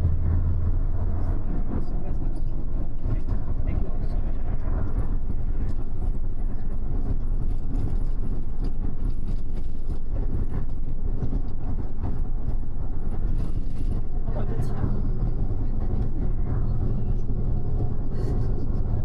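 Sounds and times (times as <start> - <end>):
bus engine hum and road rumble: 0.0 - 19.0.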